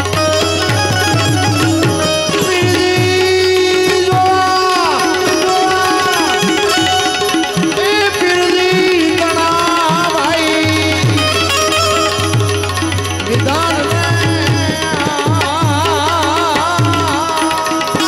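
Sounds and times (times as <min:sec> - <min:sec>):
harmonium melody: 0:00.0 - 0:18.0
man singing: 0:00.0 - 0:18.0.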